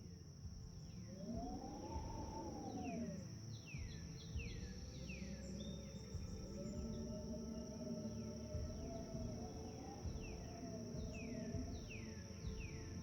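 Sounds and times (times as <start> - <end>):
high insect drone: 0.0 - 13.0
soft ambient music: 0.0 - 13.0
descending bird calls: 0.8 - 13.0.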